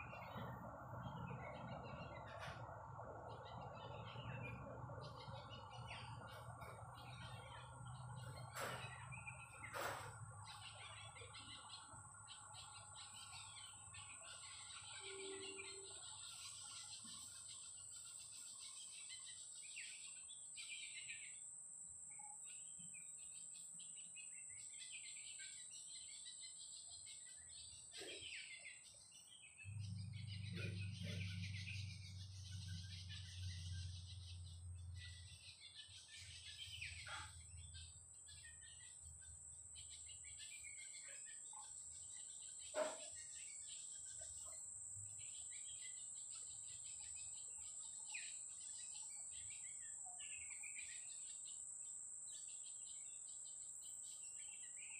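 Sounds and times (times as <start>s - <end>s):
birds chirping and calling: 0.0s - 54.9s.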